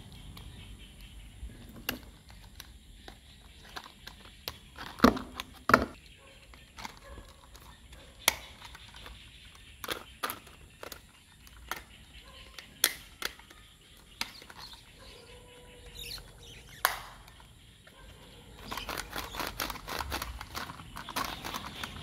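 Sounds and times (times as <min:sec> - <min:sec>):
plastic toy parts clicking: 0:00.0 - 0:14.9, 0:18.6 - 0:22.0.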